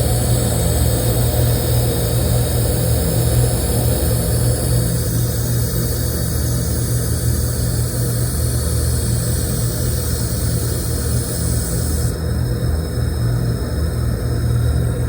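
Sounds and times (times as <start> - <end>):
welding machine hum with hiss: 0.0 - 15.0.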